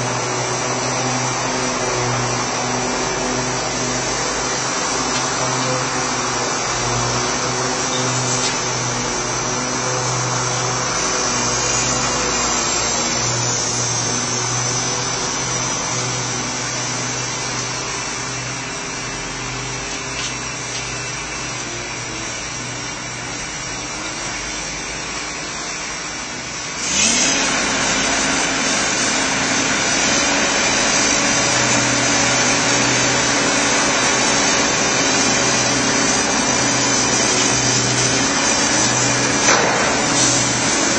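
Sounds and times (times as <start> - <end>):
diesel engine running and revving: 0.0 - 40.9.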